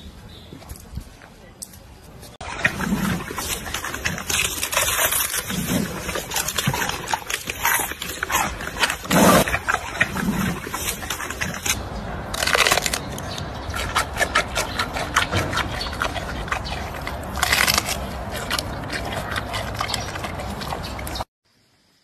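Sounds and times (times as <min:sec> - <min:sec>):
panda chewing bamboo crunches: 0:02.4 - 0:21.3.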